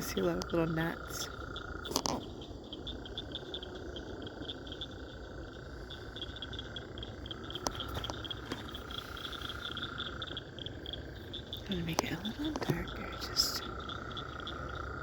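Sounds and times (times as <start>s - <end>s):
frogs trilling: 0.0s - 15.0s
pulsed frog calls: 0.0s - 15.0s.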